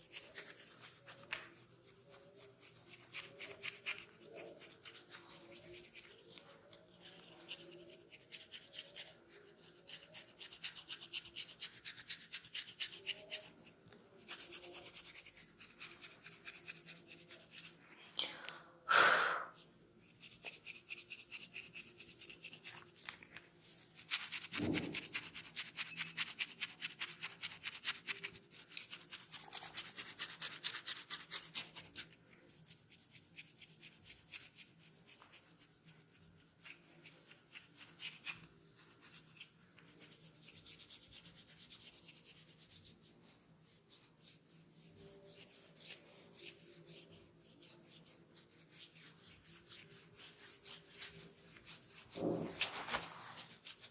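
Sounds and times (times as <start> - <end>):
scratching through hair on scalp: 0.0 - 13.6, 14.2 - 17.8, 20.0 - 53.9.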